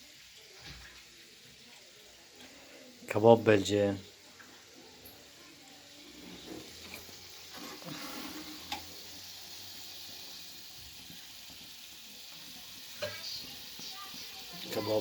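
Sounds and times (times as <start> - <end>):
meat sizzling with pops: 0.0 - 15.0.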